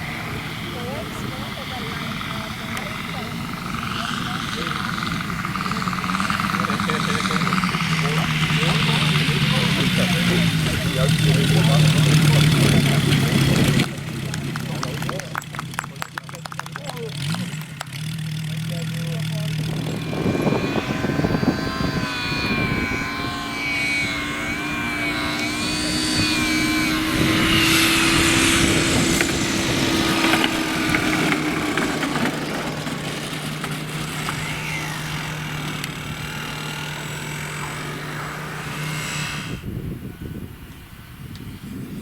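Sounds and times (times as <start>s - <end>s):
model airplane engine whine: 0.0s - 42.0s.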